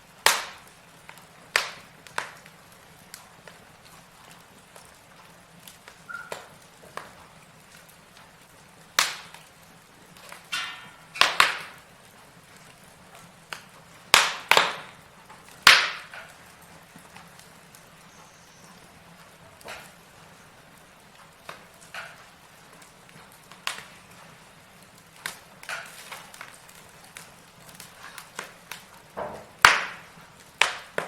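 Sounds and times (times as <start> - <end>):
logs crackling and popping in fire: 0.0 - 31.0.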